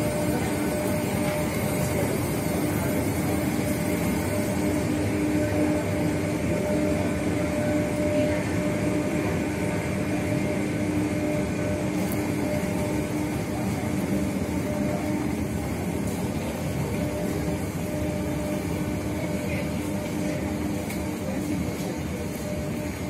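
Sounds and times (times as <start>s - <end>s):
train mechanical hum: 0.0s - 23.0s.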